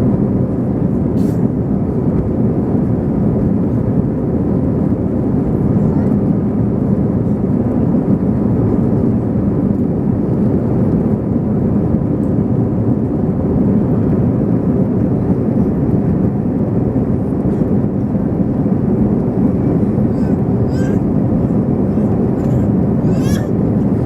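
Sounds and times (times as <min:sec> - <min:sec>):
jet cabin engine rush: 0:00.0 - 0:24.0.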